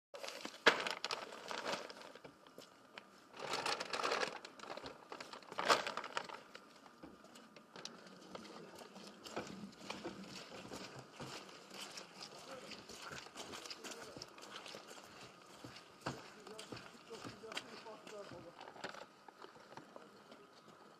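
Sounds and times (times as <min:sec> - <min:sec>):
plastic sacks rustling: 0:00.2 - 0:07.0, 0:07.6 - 0:19.8.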